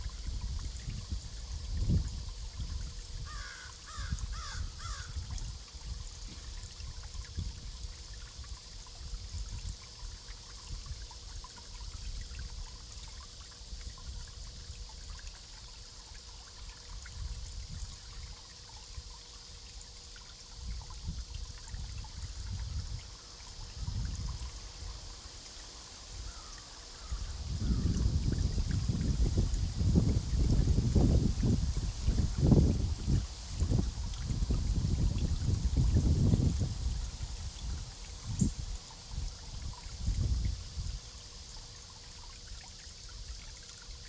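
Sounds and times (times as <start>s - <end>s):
water trickling: 0.0s - 44.0s.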